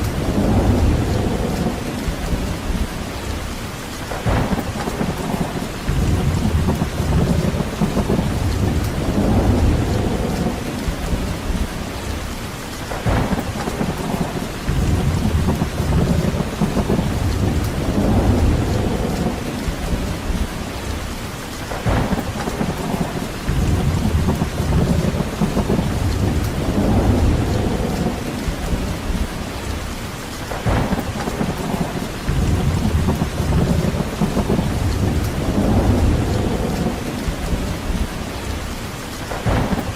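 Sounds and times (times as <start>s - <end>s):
deep rumbling: 0.0s - 39.9s
steady rain falling: 0.0s - 39.9s.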